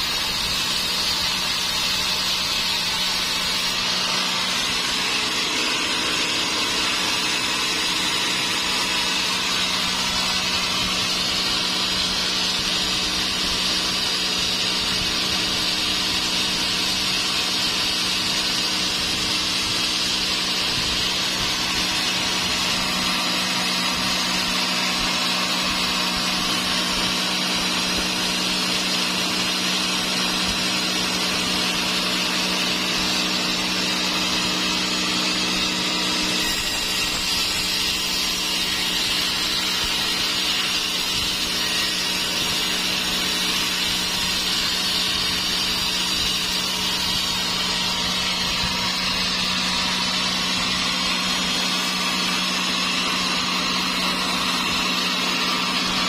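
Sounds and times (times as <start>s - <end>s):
saw cutting through wood: 0.0s - 56.0s.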